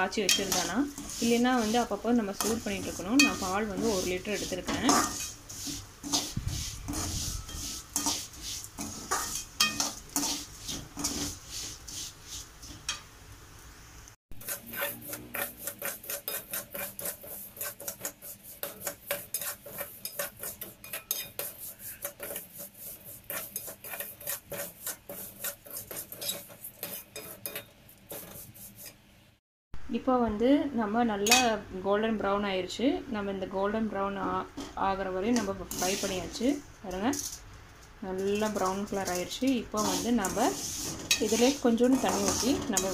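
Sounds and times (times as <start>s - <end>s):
spatula scraping a metal pan: 0.0s - 13.0s, 14.3s - 29.0s, 34.6s - 37.5s, 38.2s - 42.9s.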